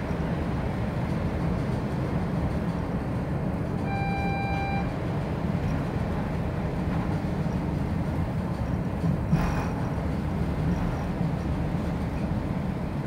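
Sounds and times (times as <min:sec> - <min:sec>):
train engine and wheels rumbling: 0:00.0 - 0:13.0.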